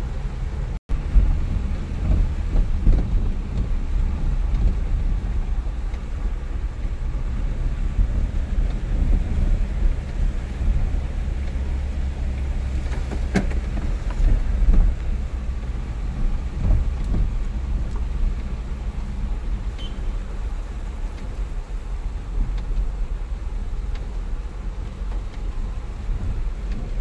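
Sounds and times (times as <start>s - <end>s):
vehicle rumble on wet road: 0.0s - 27.0s.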